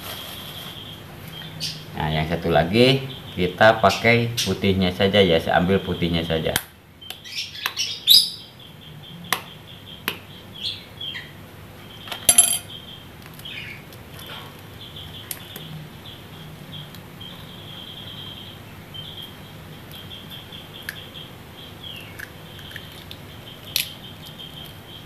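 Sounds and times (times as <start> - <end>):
small birds chirping: 0.2 - 25.0.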